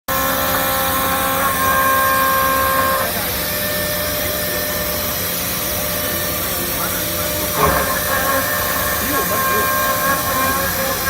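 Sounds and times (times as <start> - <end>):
hissing machine noise: 0.1 - 11.0
milling machine whine: 0.1 - 11.0.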